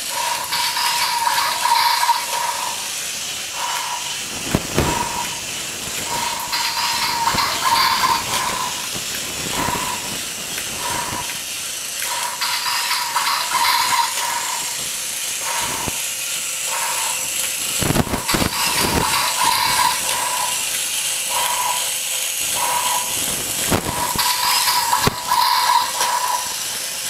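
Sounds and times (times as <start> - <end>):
toy robot mechanism whirring: 0.0 - 27.0.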